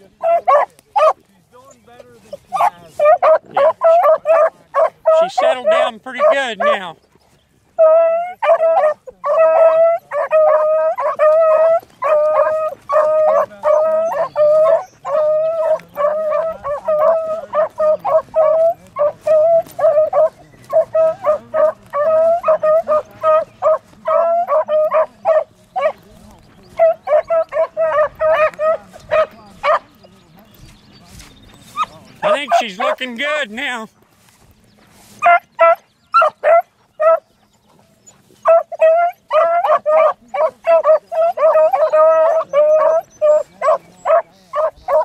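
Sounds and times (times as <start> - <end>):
hound baying: 0.0 - 30.4, 31.5 - 33.8, 35.2 - 45.0.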